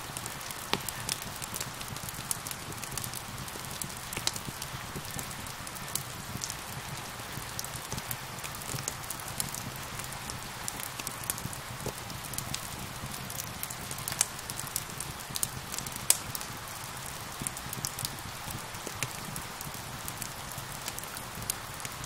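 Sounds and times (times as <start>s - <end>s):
rain hiss: 0.0s - 22.0s
wood fire crackling and popping: 0.0s - 22.0s.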